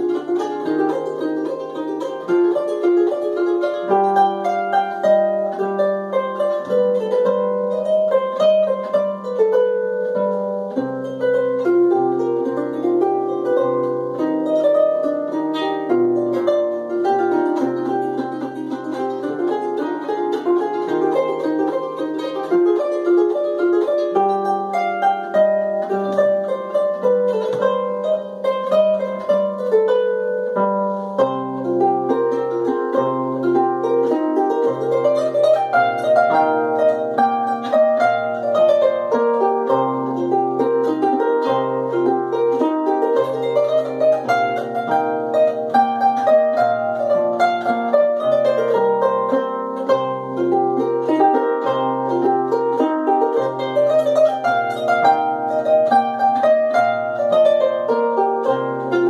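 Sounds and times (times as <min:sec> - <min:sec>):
harp melody: 0:00.0 - 0:59.0.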